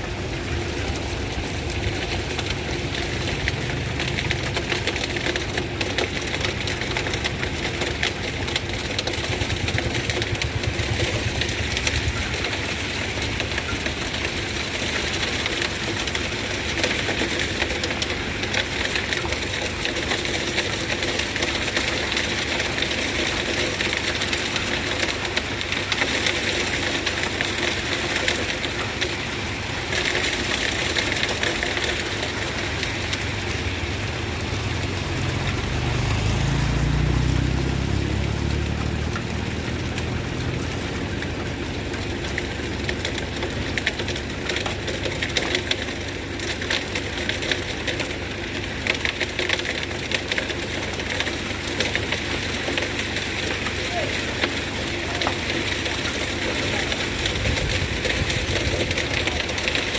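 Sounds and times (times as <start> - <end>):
outdoor noise: 0.0 - 59.9
vehicle engine rumbling: 0.0 - 59.9.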